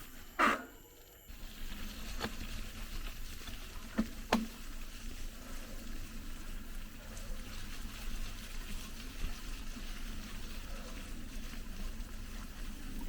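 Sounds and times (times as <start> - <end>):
bike tyres rumbling on trail: 0.0 - 13.0.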